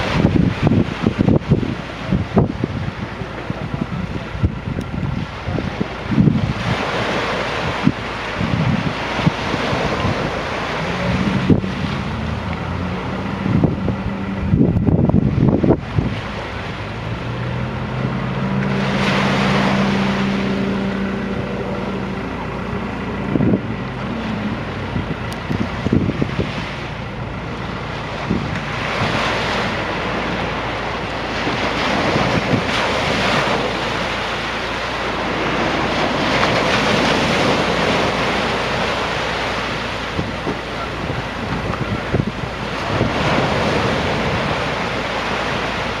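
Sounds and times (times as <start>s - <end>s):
low engine hum: 0.0s - 46.0s
surf breaking: 0.0s - 46.0s
wind buffeting microphone: 0.0s - 46.0s.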